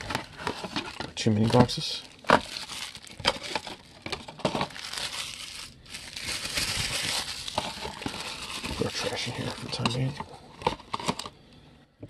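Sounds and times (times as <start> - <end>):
plastic wrapper crinkling: 0.0 - 11.4.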